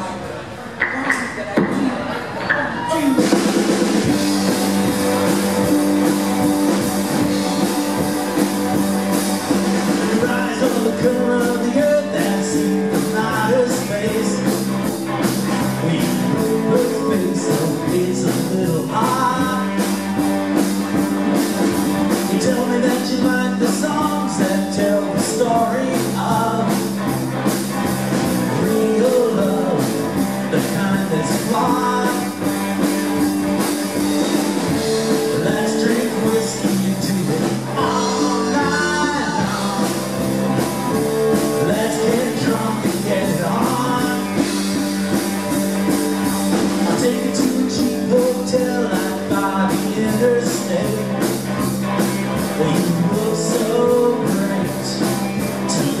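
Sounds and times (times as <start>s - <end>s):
electric guitars: 0.0s - 56.0s
man singing lead: 2.6s - 56.0s
drum kit steady beat: 3.0s - 56.0s
electric bass: 3.1s - 56.0s.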